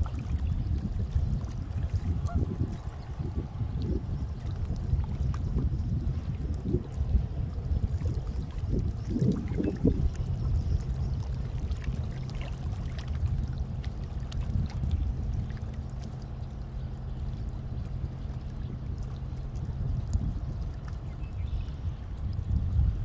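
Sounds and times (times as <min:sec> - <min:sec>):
low ship engine drone: 0:00.0 - 0:23.0
small waves lapping against rocks: 0:00.0 - 0:23.0.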